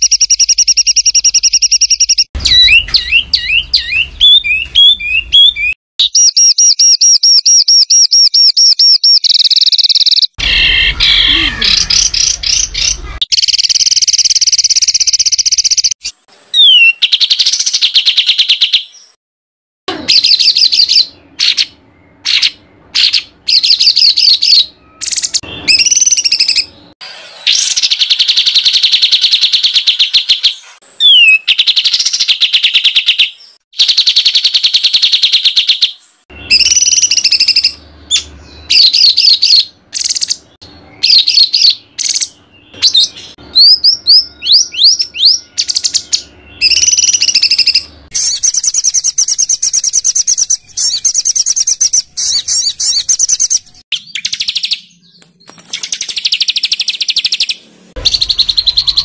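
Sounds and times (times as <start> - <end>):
songbird trills and whistles: 0.0 - 19.2, 20.1 - 26.8, 27.4 - 59.0.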